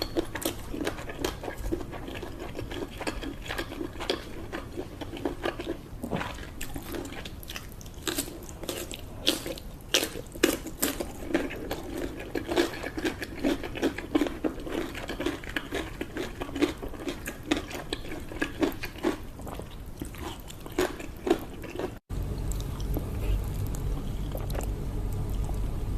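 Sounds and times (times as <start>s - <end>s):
person chewing food: 0.0s - 25.8s.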